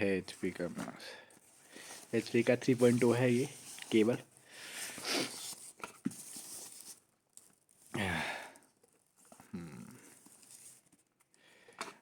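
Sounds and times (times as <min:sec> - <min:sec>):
packaging rustling and crinkling: 0:00.2 - 0:11.4.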